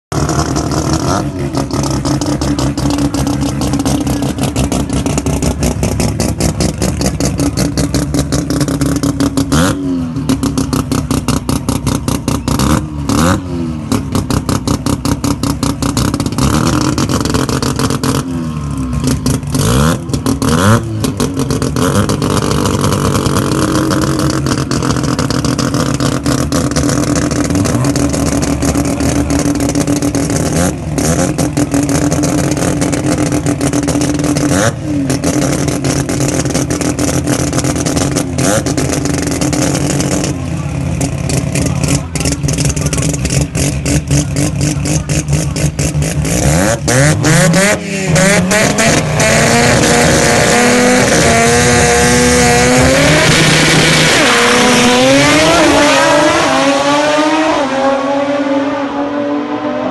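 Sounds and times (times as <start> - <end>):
race engine idling with throttle blips: 0.1 - 59.9.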